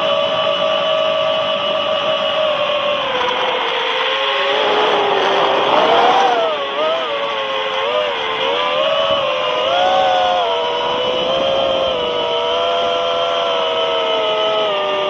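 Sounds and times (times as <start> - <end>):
drone motors and propellers whining: 0.0 - 15.0.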